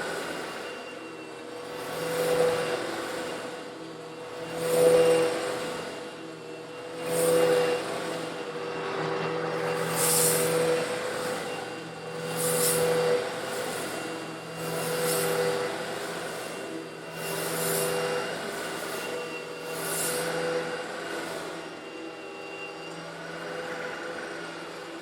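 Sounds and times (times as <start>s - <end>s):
vacuum cleaner motor hum: 0.0s - 25.0s.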